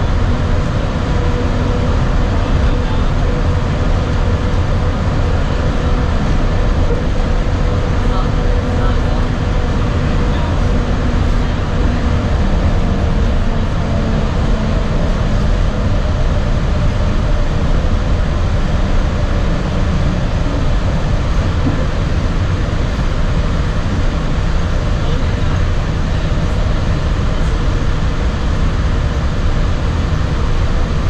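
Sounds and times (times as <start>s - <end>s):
faint whine: 0.0s - 31.0s
monorail rumbling: 0.0s - 31.0s.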